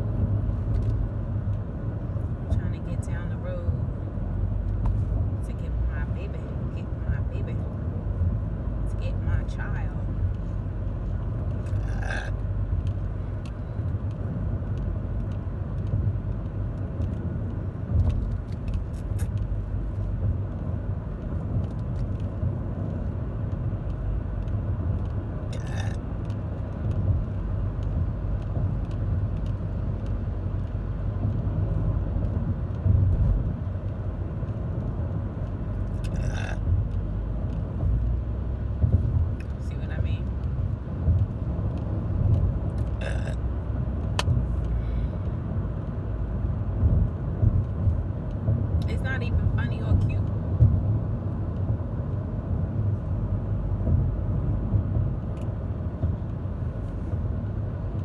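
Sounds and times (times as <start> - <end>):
road rumble inside car: 0.0 - 58.0.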